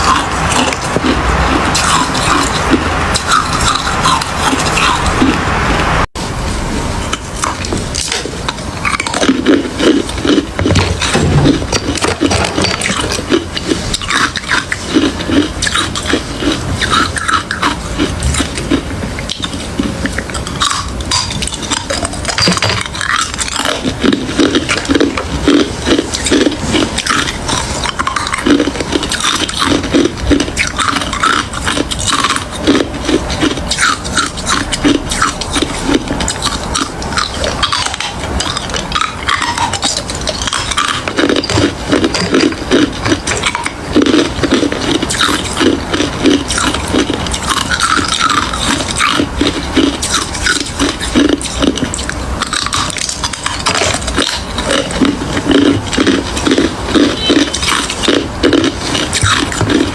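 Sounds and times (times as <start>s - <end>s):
chewing crushed ice: 0.0s - 5.6s, 7.1s - 59.9s.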